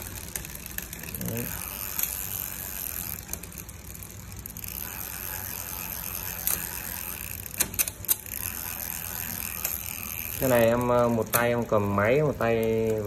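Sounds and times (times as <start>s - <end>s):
bike chain whirring: 0.0s - 13.0s.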